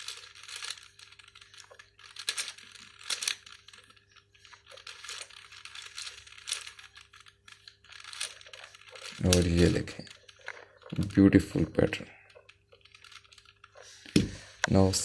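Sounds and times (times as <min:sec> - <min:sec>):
puzzle cube clicking: 0:00.0 - 0:14.4.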